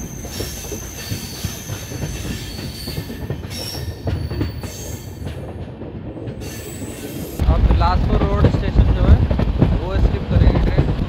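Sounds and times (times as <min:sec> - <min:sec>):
wheels knocking and clattering: 0:00.0 - 0:06.4, 0:07.3 - 0:11.0
train rumble: 0:00.0 - 0:11.0.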